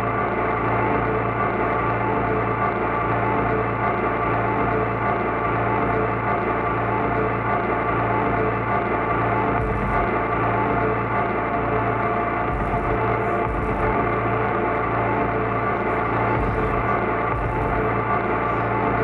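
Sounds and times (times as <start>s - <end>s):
ambient electronic drone music: 0.0s - 19.0s.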